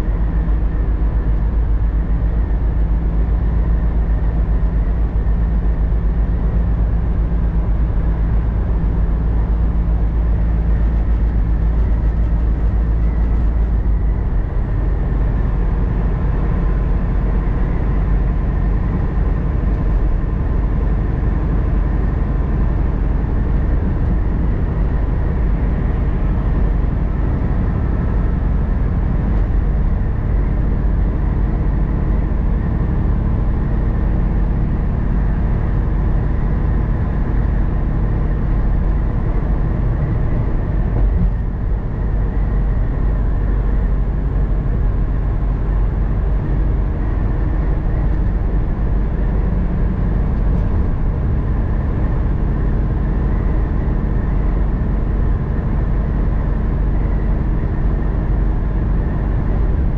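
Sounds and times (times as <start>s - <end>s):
tyre and road noise: 0.0s - 59.9s
vehicle engine hum: 0.0s - 59.9s.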